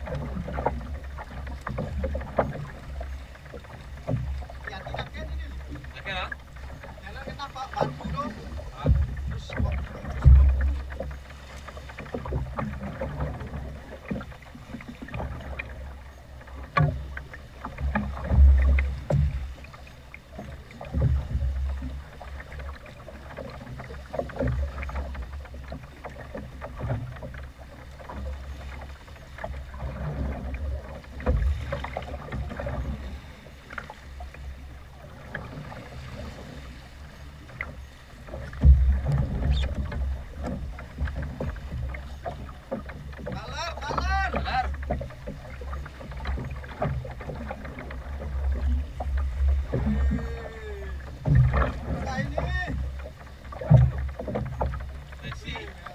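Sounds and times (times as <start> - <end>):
waves slapping against hull: 0.0 - 55.9.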